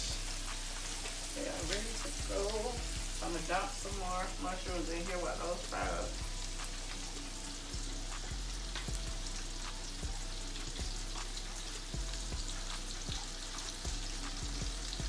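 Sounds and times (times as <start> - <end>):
deep frying sizzle with pops: 0.0 - 15.0.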